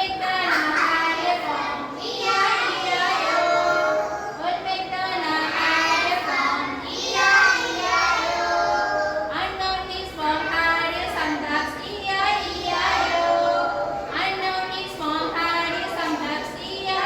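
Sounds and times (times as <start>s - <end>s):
children singing in unison: 0.0s - 9.4s, 10.0s - 17.0s.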